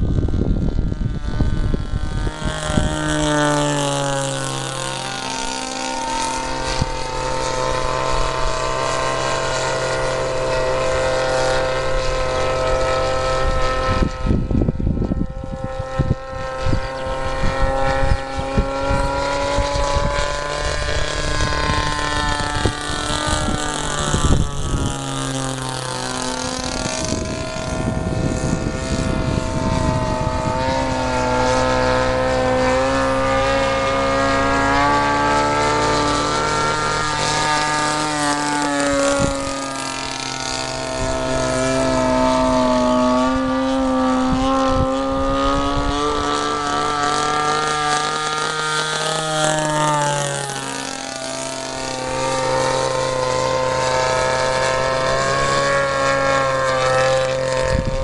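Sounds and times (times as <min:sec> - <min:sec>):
model airplane engine buzzing: 0:00.0 - 0:58.0.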